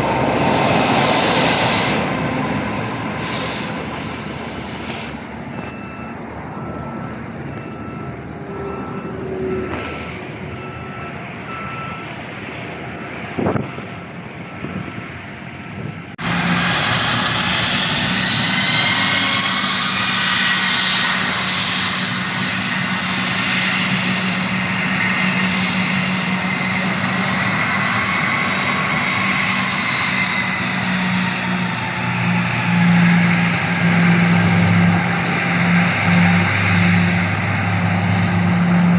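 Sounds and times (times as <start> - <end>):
aircraft engine noise: 0.0 - 38.9
reversing beeper: 0.1 - 12.2, 16.3 - 38.9.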